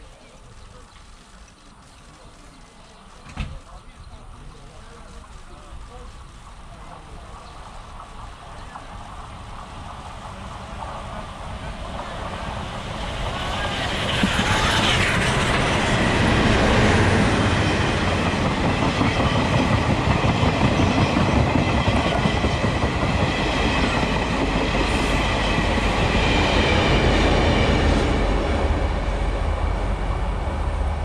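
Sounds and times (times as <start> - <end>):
train rolling past: 0.0 - 31.0.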